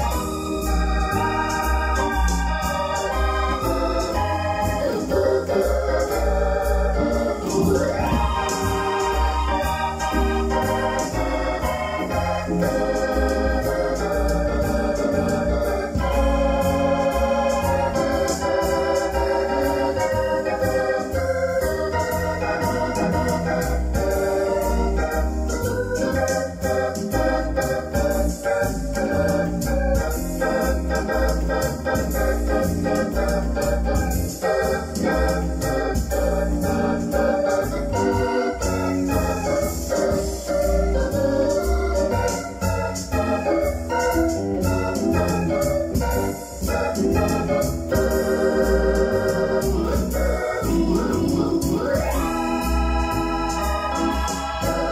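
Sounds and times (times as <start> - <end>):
electronic organ keyboard playing: 0.0 - 54.9.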